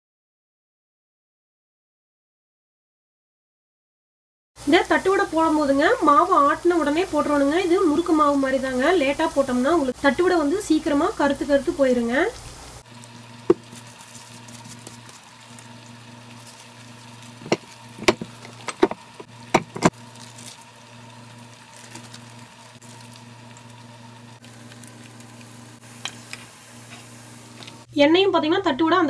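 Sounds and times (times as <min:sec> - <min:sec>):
food sizzling in hot oil: 0:04.6 - 0:27.9.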